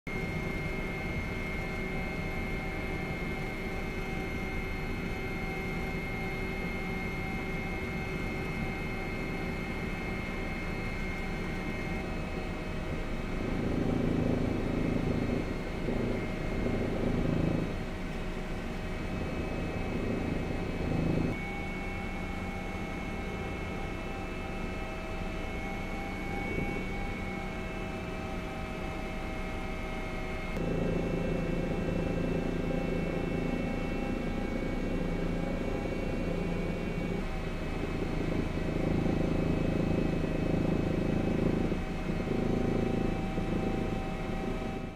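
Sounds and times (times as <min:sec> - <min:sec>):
helicopter drone: 0:00.1 - 0:44.9.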